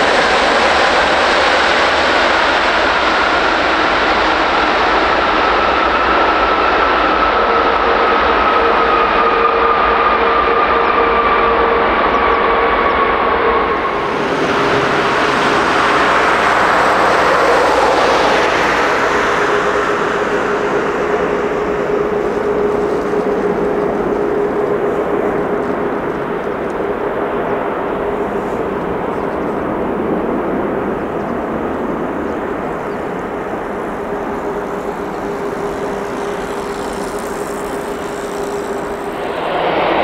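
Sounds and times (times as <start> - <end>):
jet engine whine: 0.0 - 40.0
jet engines roaring: 0.0 - 40.0.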